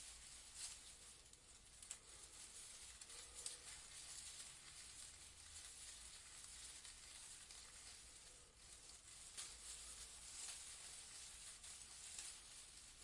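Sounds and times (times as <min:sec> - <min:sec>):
leaves rustling in breeze: 0:00.0 - 0:13.0.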